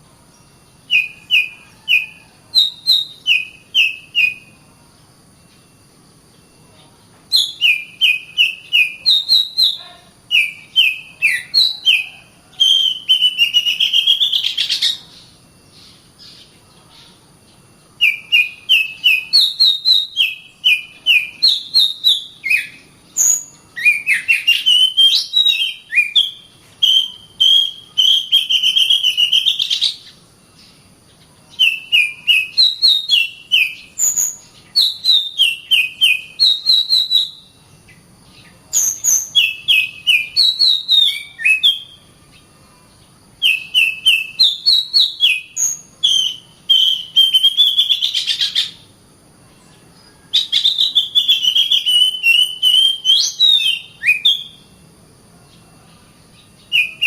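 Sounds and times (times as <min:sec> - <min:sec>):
bird singing chirps and buzzes: 0:00.0 - 0:57.0.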